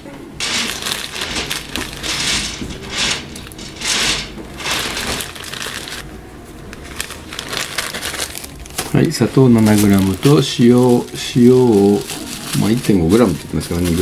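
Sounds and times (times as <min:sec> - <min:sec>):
plastic bag rustling: 0:00.4 - 0:06.0, 0:06.7 - 0:14.0
sugar granules hissing: 0:00.4 - 0:06.0, 0:07.0 - 0:14.0.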